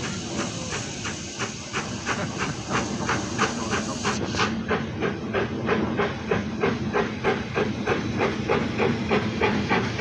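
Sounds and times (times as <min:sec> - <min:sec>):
steam locomotive chuffing: 0:00.0 - 0:10.0.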